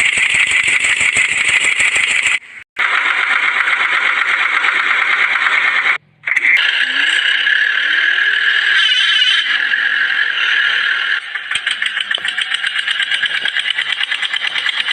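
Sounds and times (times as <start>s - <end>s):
small motor running: 0.0s - 14.9s.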